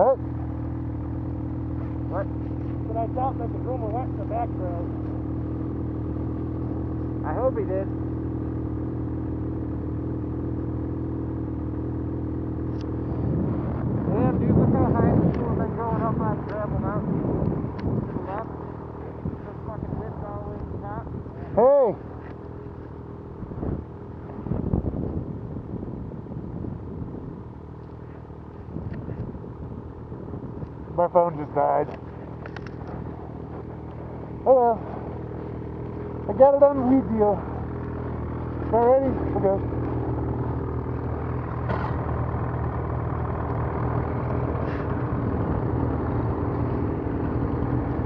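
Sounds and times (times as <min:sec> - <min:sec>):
snowmobile engine idling: 0:00.0 - 0:48.0.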